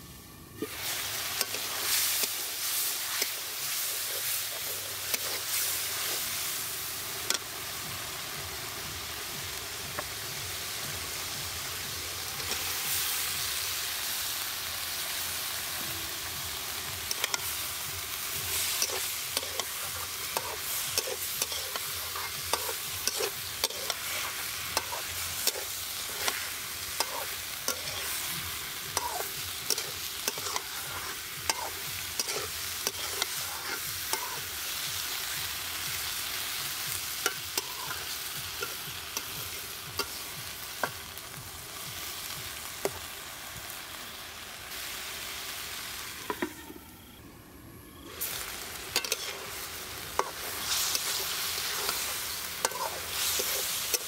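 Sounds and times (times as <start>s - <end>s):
vegetables sizzling in oil: 0.0s - 54.0s.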